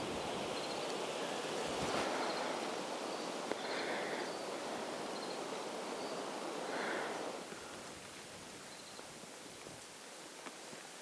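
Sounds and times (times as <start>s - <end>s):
wind rustling tree leaves: 0.0s - 11.0s.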